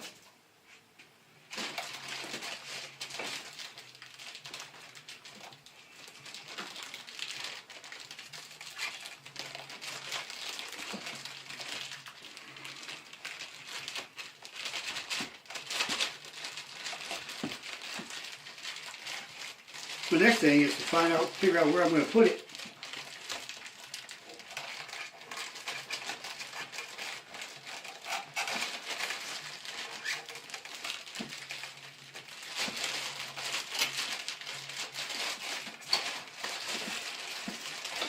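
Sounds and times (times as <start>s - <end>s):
packaging crinkling and rustling: 1.5s - 38.0s.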